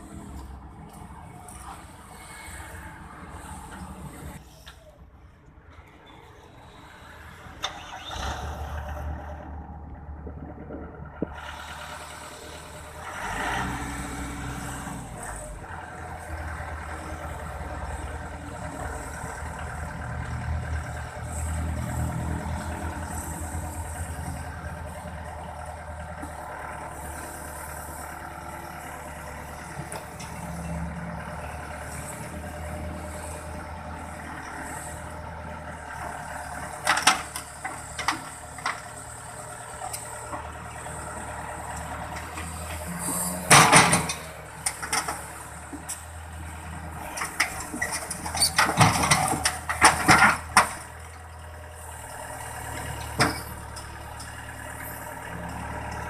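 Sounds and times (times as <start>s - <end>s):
diesel machinery engine running: 0.0s - 4.9s, 7.0s - 56.0s.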